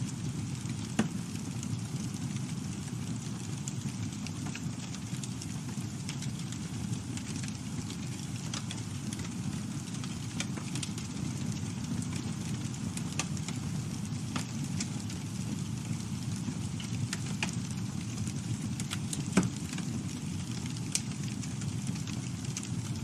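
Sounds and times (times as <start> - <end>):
campfire flames rumbling: 0.0 - 23.0
fire crackling and popping: 0.0 - 23.0.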